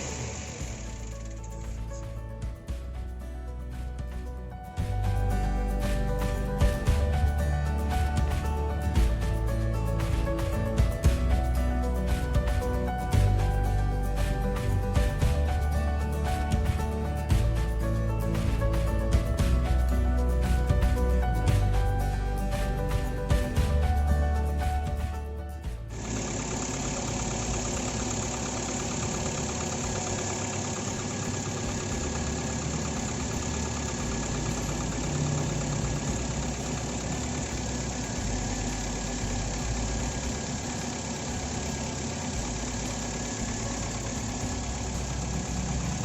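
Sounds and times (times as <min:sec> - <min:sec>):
car engine idling roughly: 0:00.0 - 0:46.0.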